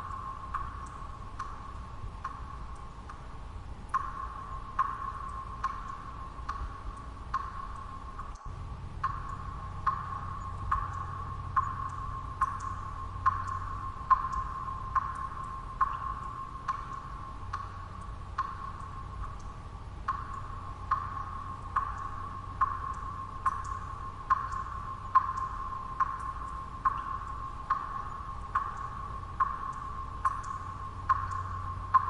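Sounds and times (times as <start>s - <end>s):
low background noise: 0.0s - 32.0s
water drops plinking: 3.9s - 32.0s.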